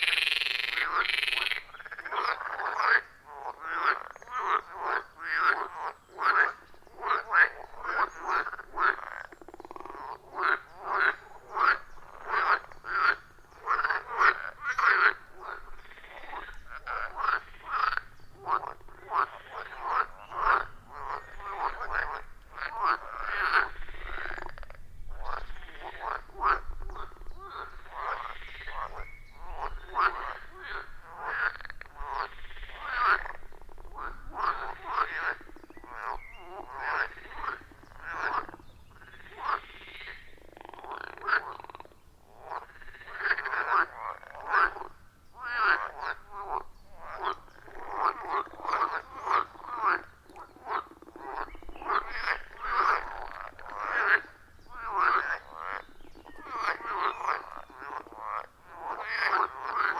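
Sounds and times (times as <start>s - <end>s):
chorus of frogs croaking: 0.0s - 59.9s.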